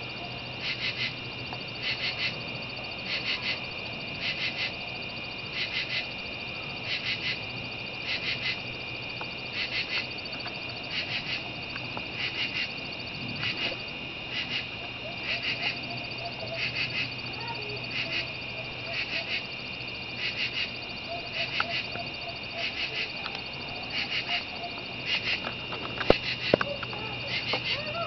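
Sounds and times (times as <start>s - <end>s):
frog chorus: 0.0s - 28.0s
frog pulsed call: 0.0s - 28.0s.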